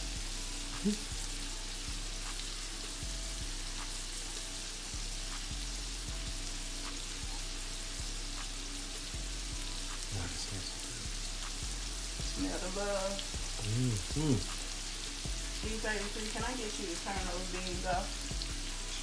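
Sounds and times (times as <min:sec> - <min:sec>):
mushrooms deep-frying sizzle: 0:00.0 - 0:19.0.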